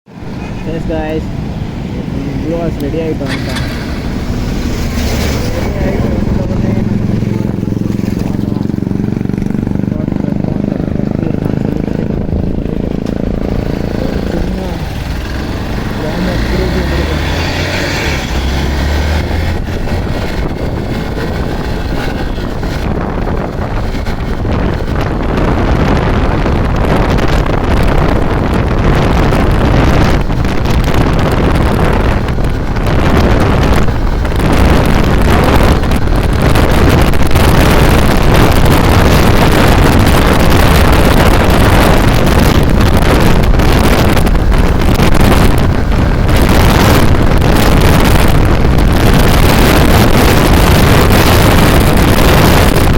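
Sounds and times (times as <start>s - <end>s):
wind buffeting microphone: 0.1s - 52.9s
motorcycle engine accelerating: 0.2s - 52.9s.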